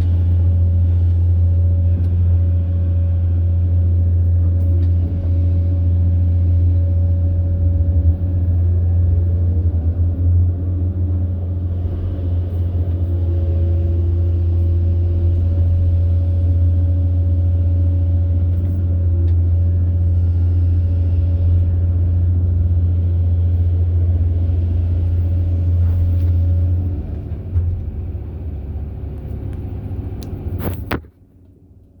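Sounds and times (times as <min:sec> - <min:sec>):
excavator diesel engine drone: 0:00.0 - 0:32.0.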